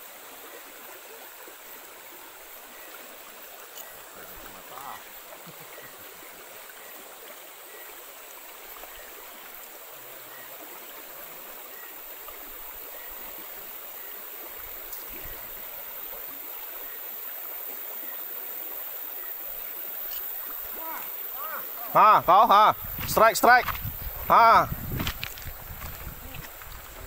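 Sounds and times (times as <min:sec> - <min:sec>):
stream running over gravel: 0:00.0 - 0:27.0.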